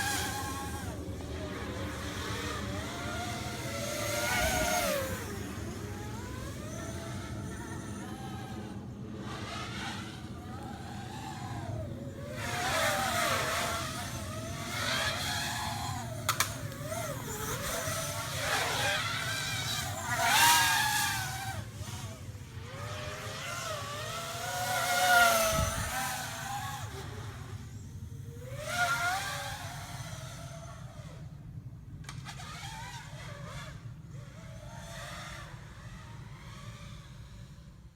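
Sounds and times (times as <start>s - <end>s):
quadcopter motors whining: 0.0s - 37.9s.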